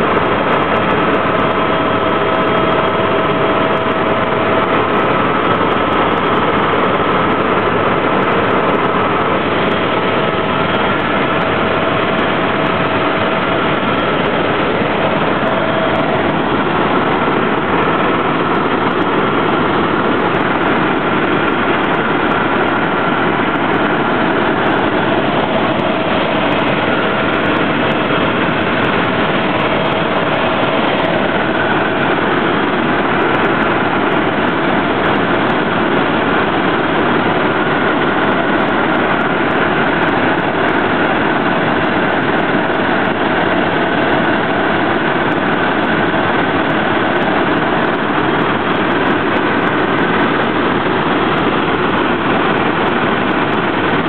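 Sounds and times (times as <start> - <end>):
faint steady whines: 0.0 - 54.0
helicopter engine and rotor drone: 0.0 - 54.0.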